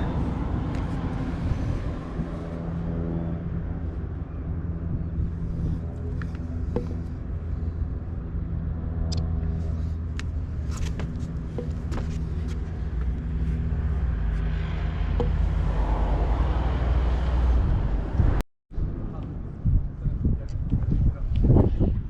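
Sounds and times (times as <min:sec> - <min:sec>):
low motor rumble: 0:00.0 - 0:22.0.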